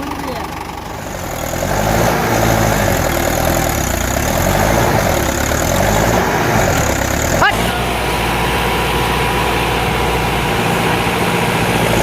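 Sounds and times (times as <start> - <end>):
tractor diesel engine revving: 0.0 - 12.0.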